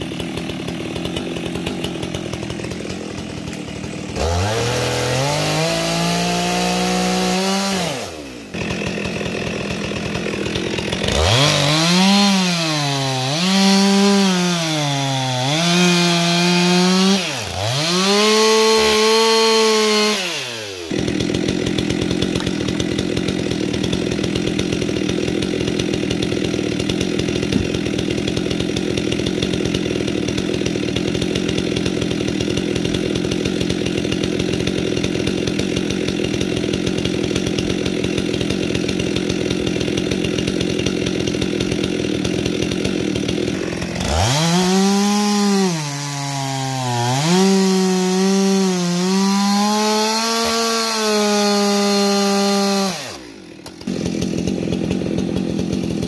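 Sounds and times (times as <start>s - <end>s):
chainsaw cutting into log: 0.0s - 56.0s
chainsaw idling: 0.0s - 56.0s.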